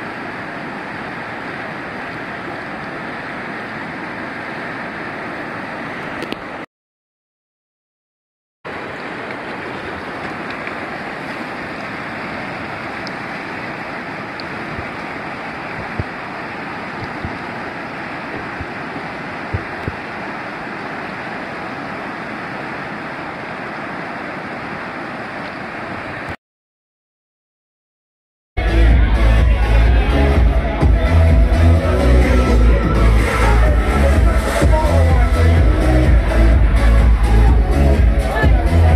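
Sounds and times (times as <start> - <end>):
whitewater rushing: 0.0 - 6.6, 8.7 - 26.4, 28.6 - 38.9.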